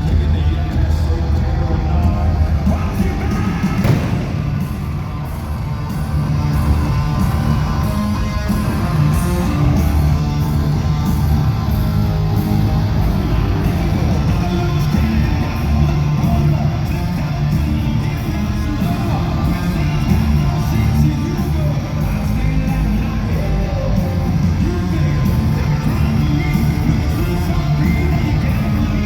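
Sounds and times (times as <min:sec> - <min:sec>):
distorted electric guitar riff: 0:00.0 - 0:29.0
hard rock band playing: 0:00.0 - 0:29.0.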